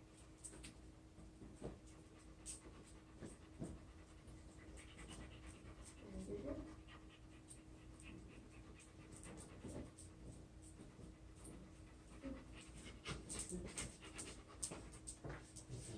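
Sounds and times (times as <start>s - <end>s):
dog panting: 1.4s - 15.9s.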